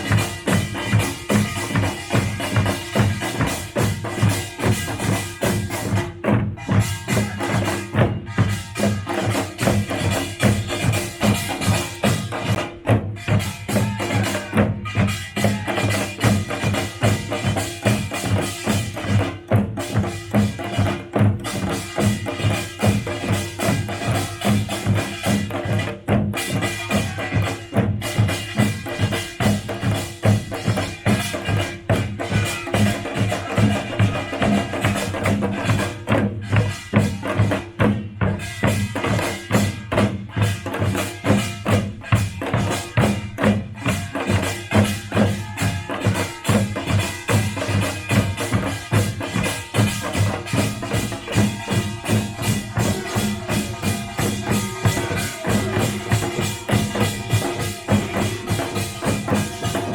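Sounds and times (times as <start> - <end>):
drums in fast rhythm: 0.0 - 59.9.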